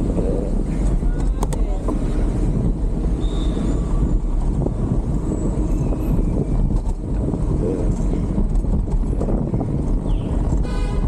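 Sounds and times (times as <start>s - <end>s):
road traffic: 0.0s - 11.0s
wind buffeting microphone: 0.0s - 11.0s.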